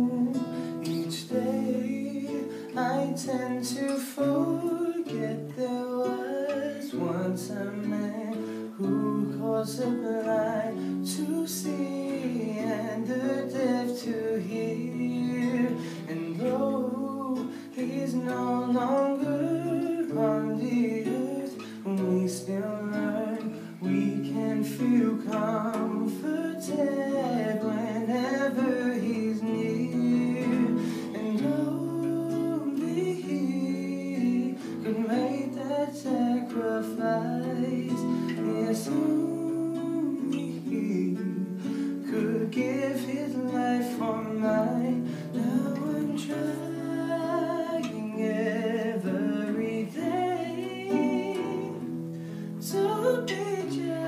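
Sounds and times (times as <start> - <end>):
acoustic guitar: 0.0 - 54.0
man singing: 0.0 - 54.0.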